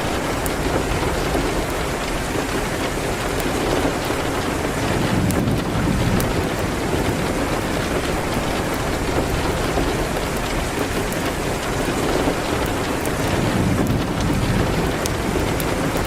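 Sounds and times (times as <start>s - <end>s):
rain hitting a window: 0.0s - 16.0s.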